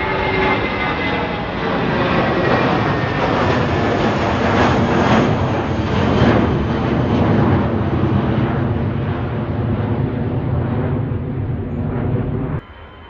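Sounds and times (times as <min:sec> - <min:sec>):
airliner engines roaring: 0:00.0 - 0:13.0.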